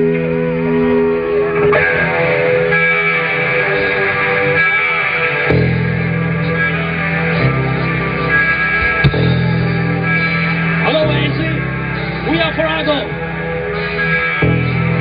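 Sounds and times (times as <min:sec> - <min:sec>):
electric guitar sustained chords: 0:00.0 - 0:15.0
heavy bass notes: 0:00.0 - 0:15.0.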